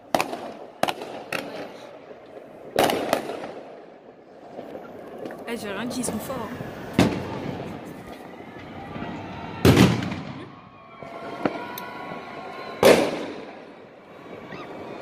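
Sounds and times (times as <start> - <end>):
loud firework bangs: 0.0 - 2.0, 2.6 - 5.4, 6.1 - 15.0
rolling echo: 0.0 - 15.0
small firework crack: 0.0 - 15.0.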